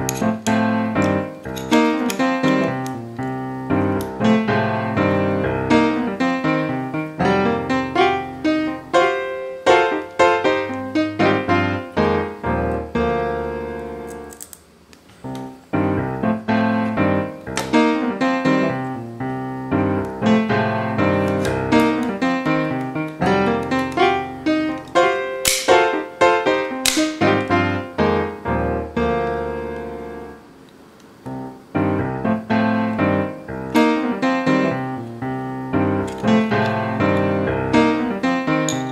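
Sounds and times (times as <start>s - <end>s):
piano music: 0.0s - 14.5s, 15.2s - 30.6s, 31.2s - 38.9s.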